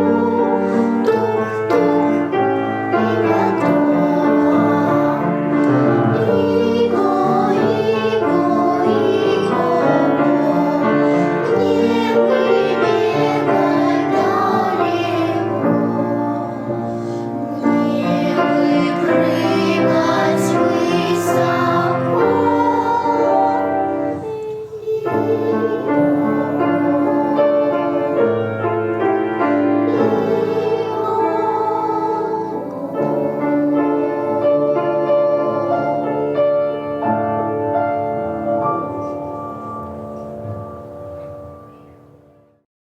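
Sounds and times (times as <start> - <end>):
piano accompaniment: 0.0 - 42.6.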